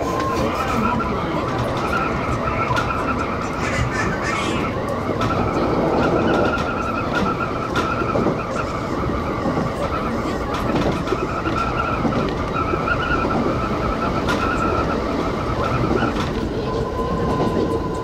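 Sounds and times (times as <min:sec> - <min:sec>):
electric train rolling: 0:00.0 - 0:18.0
wheels squealing on rails: 0:00.0 - 0:18.0.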